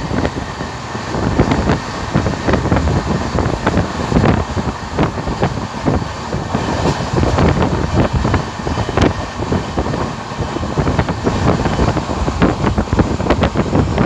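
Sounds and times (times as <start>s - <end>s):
train rumble: 0.0s - 14.0s
wheels clicking on rails: 0.0s - 14.0s
wind buffeting microphone: 0.0s - 14.0s.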